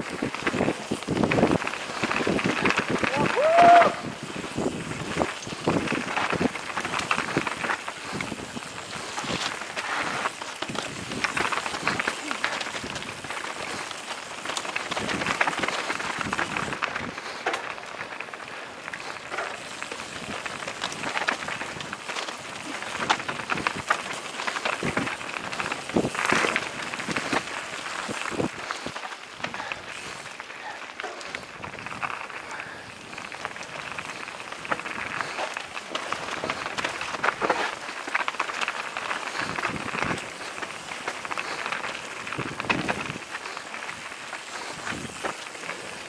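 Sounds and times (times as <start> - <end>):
bike tyres crackling over leaves: 0.0 - 46.0.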